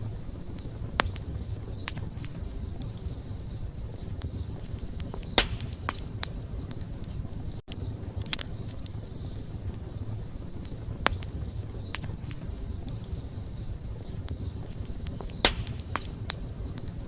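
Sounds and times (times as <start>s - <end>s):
fire crackles and pops: 0.0s - 17.0s
low rumble of wood fire: 0.0s - 17.0s.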